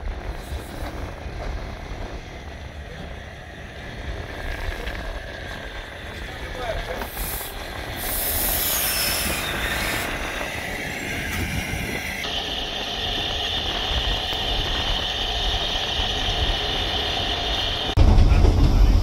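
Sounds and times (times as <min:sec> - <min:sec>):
steam hissing: 0:00.0 - 0:18.3
steam locomotive running: 0:00.0 - 0:19.0.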